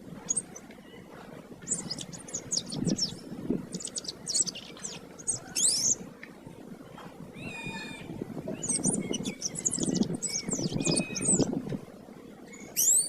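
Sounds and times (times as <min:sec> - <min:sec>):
canary singing trills: 0:00.2 - 0:06.0, 0:07.4 - 0:11.5, 0:12.5 - 0:13.0
held steady-pitched bird call: 0:00.2 - 0:06.0, 0:06.8 - 0:11.6, 0:12.3 - 0:13.0.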